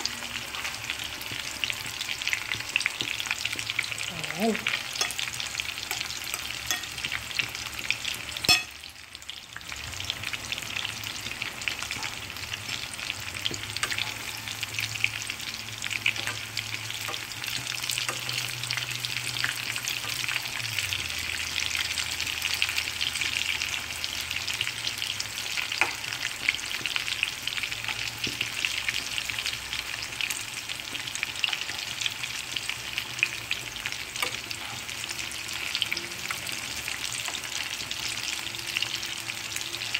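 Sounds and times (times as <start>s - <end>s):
food frying in oil: 0.0s - 39.9s.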